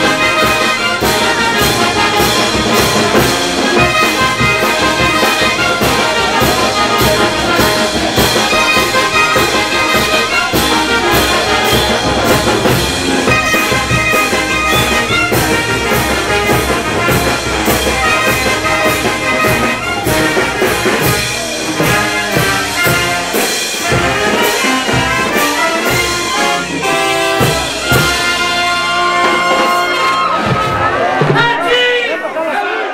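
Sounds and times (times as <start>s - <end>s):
drum beat: 0.0s - 31.9s
brass band playing: 0.0s - 32.9s.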